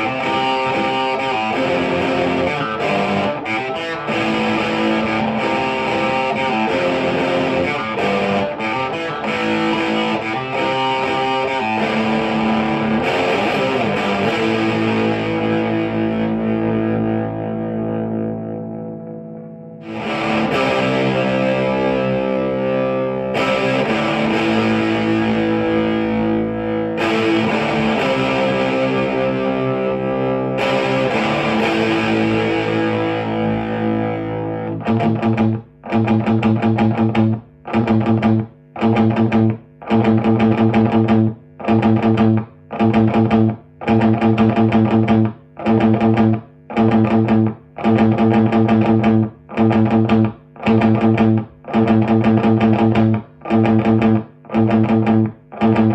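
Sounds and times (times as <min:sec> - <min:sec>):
overdriven electric guitar chords: 0:00.0 - 0:55.9.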